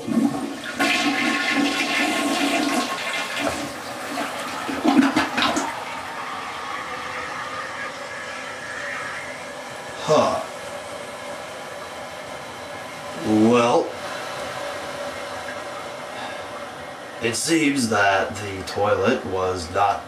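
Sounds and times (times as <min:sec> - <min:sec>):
toilet flushing: 0:00.0 - 0:20.0.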